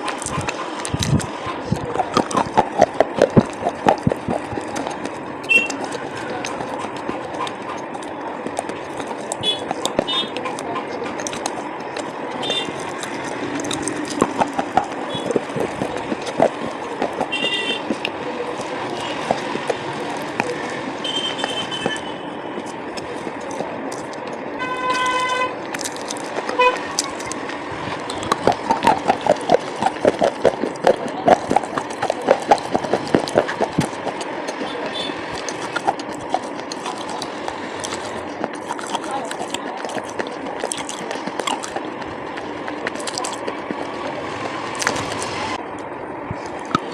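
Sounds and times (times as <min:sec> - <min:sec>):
pencils cracking and crunching: 0:00.0 - 0:45.8, 0:46.4 - 0:46.9.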